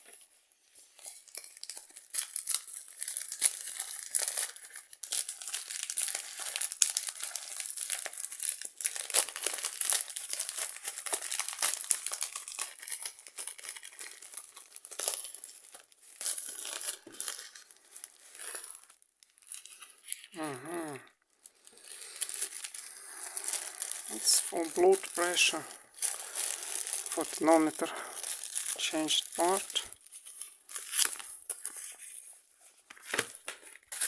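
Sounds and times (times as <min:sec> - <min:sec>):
packaging torn and crinkled: 0:01.0 - 0:34.0.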